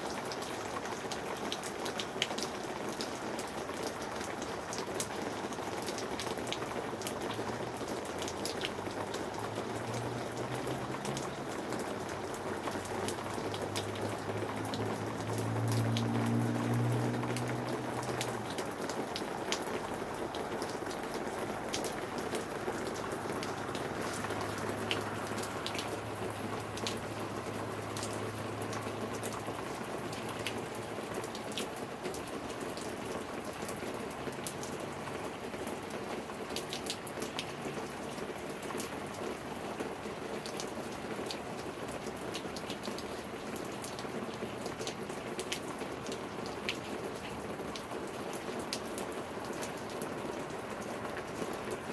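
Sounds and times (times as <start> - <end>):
raindrops ticking on a surface: 0.0 - 51.9
steady rain hissing: 0.0 - 51.9.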